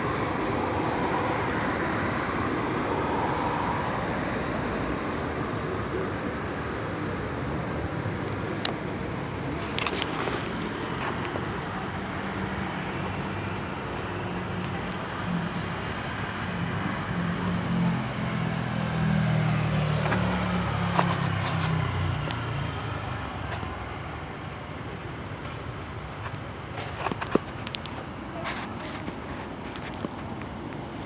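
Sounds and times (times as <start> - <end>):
road traffic hiss: 0.0 - 31.0
low engine rumble: 3.1 - 31.0.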